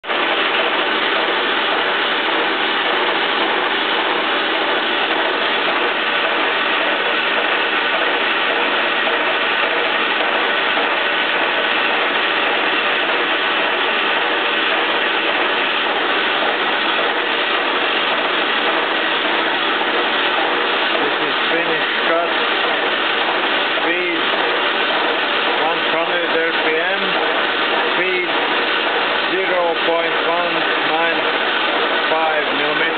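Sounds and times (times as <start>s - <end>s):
gear train whirring: 0.0s - 32.9s
lathe running: 0.0s - 32.9s.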